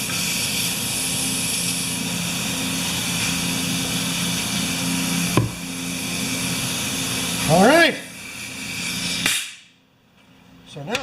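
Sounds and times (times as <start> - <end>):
air compressor running: 0.0 - 9.8.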